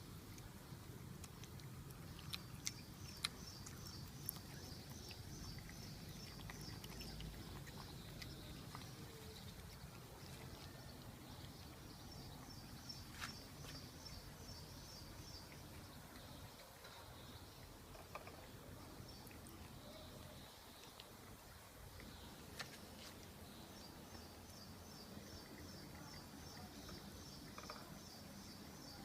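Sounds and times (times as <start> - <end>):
cat chewing and licking: 0.0 - 29.0.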